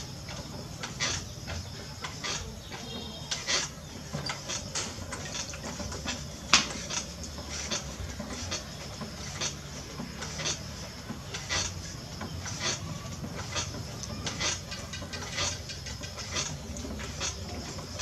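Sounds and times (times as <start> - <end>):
potter's wheel humming: 0.0 - 18.0.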